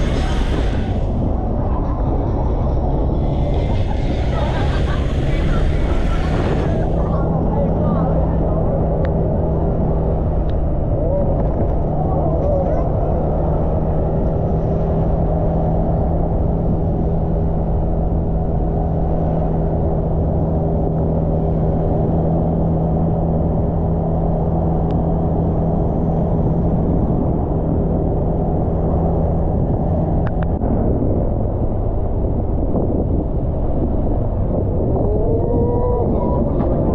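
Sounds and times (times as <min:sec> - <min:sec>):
motorbike engine cruising: 0:00.0 - 0:30.6
road and wind noise: 0:00.0 - 0:36.9.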